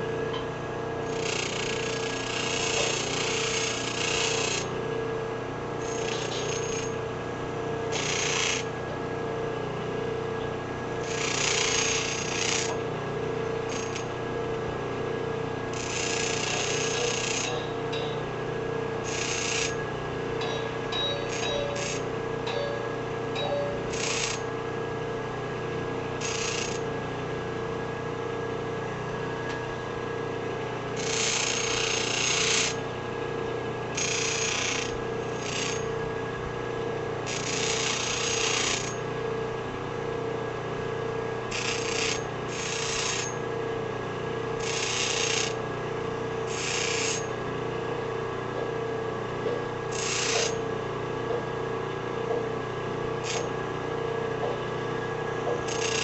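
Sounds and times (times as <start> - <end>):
drill press humming and whining: 0.0 - 56.0.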